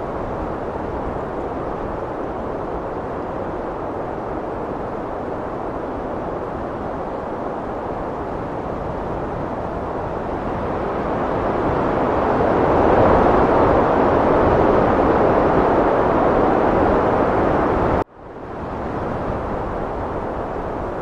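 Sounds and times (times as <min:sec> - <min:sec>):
heavy wind blowing: 0:00.0 - 0:21.0.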